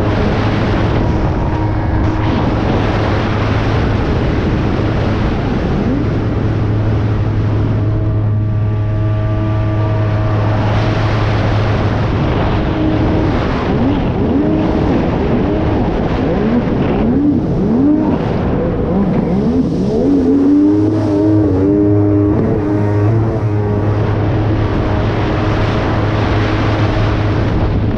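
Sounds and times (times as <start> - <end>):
jet ski engine revving: 0.0 - 27.9.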